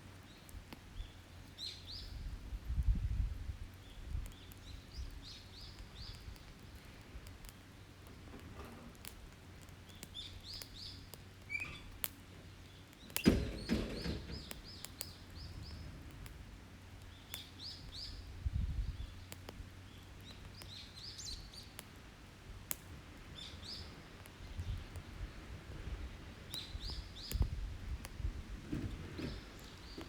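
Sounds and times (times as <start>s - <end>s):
small songbirds chirping: 0.0s - 8.9s, 9.5s - 22.0s, 23.0s - 30.0s
campfire crackling: 0.0s - 30.0s.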